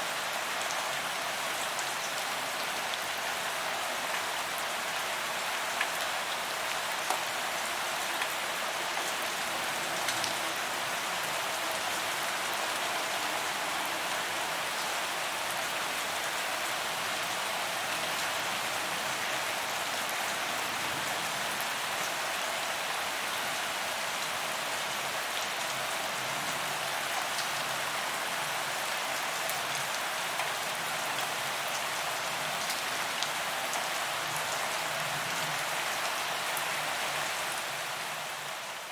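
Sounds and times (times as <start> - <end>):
rain on pavement: 0.1 - 38.9.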